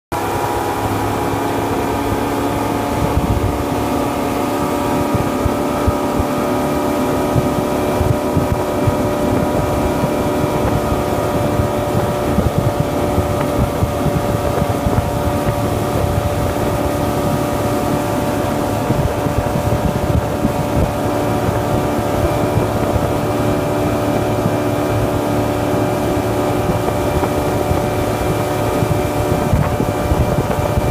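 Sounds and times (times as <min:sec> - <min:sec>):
outboard motor running: 0:00.1 - 0:30.9.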